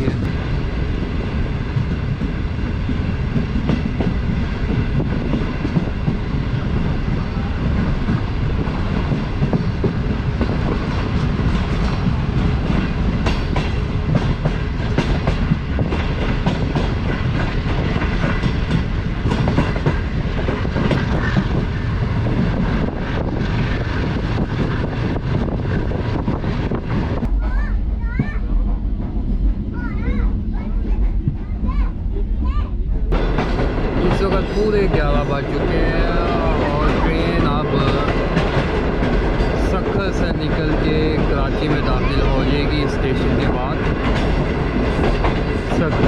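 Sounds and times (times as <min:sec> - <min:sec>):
train wheels rumbling: 0:00.0 - 0:46.0.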